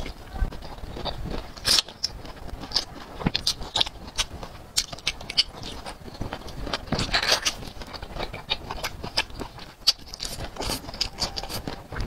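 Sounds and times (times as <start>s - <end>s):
crunching chili pepper: 0.0s - 12.0s.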